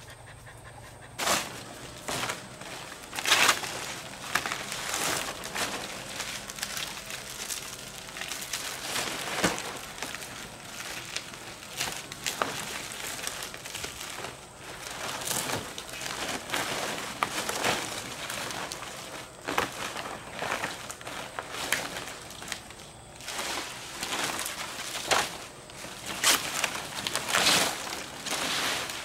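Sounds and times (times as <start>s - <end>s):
crinkling and crackling: 1.2s - 29.0s.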